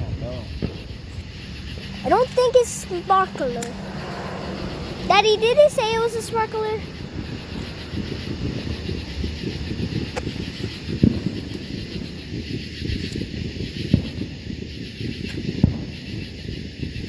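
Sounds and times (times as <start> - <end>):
low rumbling wind: 0.0 - 17.0.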